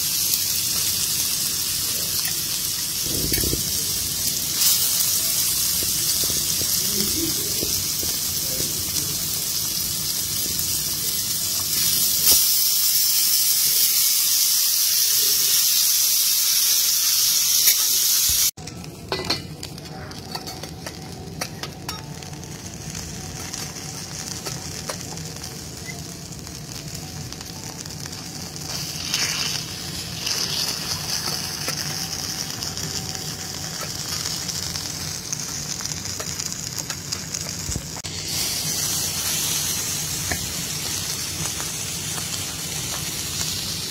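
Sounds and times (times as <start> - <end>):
steaks sizzling on a griddle: 0.0 - 18.6, 19.7 - 43.9.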